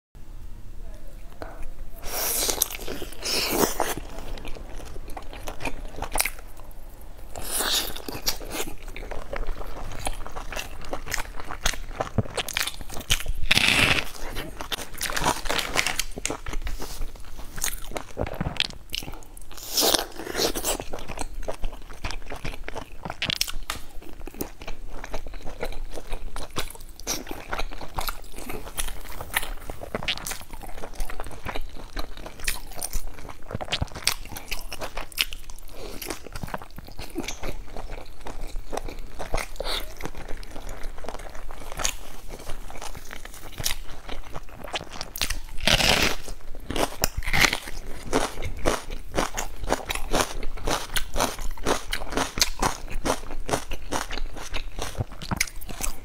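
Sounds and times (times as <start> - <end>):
crunchy chewing: 1.4 - 56.0.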